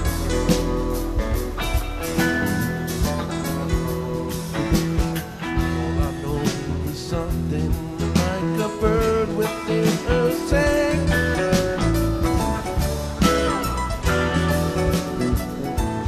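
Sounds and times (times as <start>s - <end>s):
drum beat: 0.0s - 16.0s
guitar with sliding notes: 0.0s - 16.0s.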